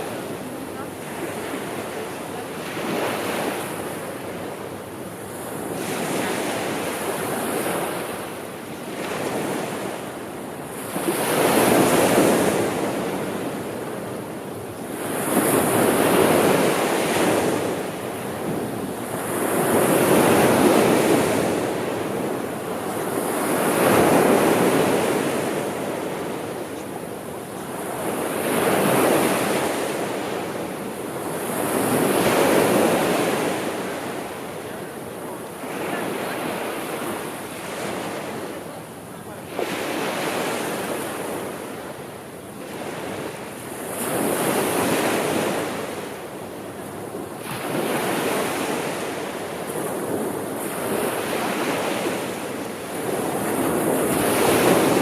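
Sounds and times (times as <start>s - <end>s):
gentle sea surf: 0.0s - 55.0s.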